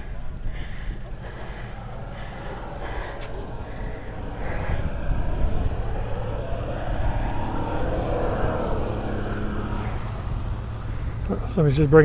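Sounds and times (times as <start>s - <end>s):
engine running at low speed: 0.0s - 12.0s
steady low rumble: 0.0s - 12.0s.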